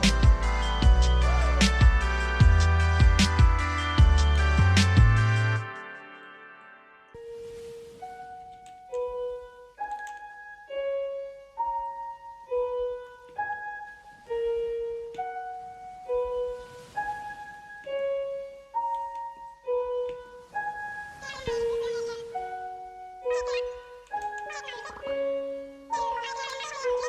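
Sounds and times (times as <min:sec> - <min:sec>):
slow piano-like melody: 0:00.0 - 0:27.0.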